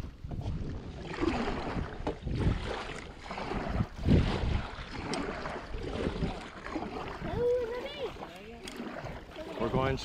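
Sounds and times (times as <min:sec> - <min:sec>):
wind rumble on microphone: 0:00.0 - 0:08.2
paddle stroking through water: 0:00.0 - 0:10.0.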